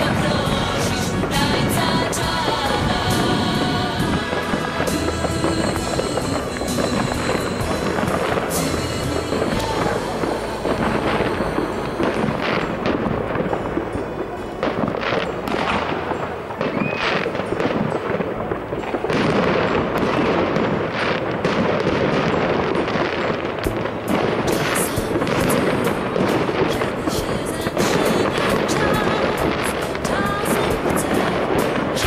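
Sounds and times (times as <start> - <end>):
fireworks bangs and crackling pops: 0.0 - 32.0.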